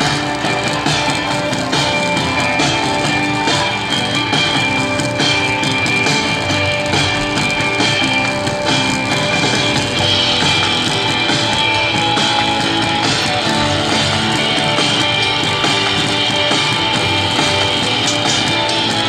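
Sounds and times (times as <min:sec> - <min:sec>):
music with guitar and drums: 0:00.0 - 0:19.0.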